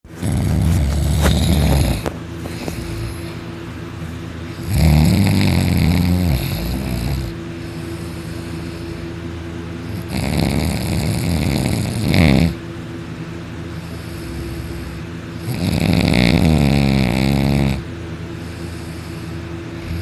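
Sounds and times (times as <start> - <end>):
faint steady hum: 0.1 - 20.0
person snoring: 0.2 - 3.4, 4.6 - 9.0, 9.9 - 12.6, 13.8 - 20.0.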